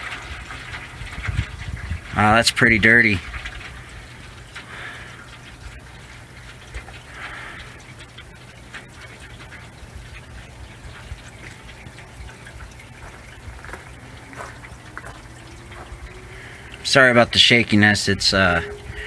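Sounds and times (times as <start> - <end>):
oil pouring into a drain pan: 0.0 - 19.0.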